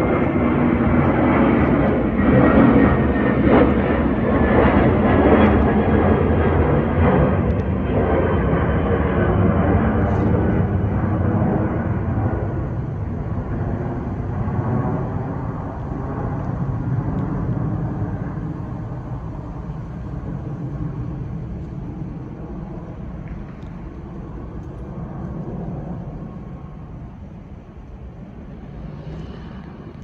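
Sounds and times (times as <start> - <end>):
jet airliner engines rumbling: 0.0 - 30.0.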